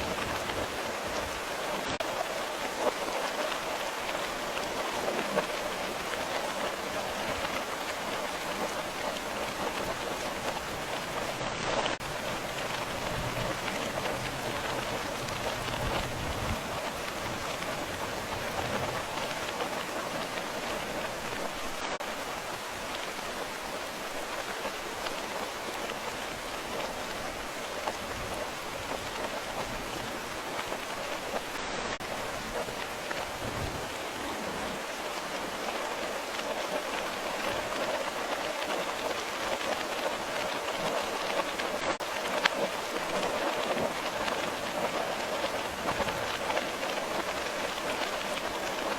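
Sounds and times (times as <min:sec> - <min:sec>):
steady rain hissing: 0:00.0 - 0:48.9.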